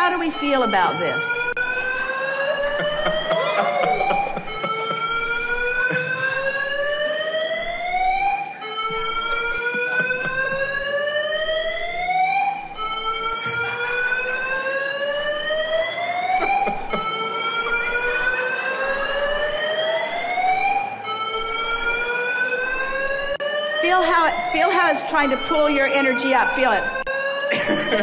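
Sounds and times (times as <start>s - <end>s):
alarm rising whoop: 0.3s - 28.0s.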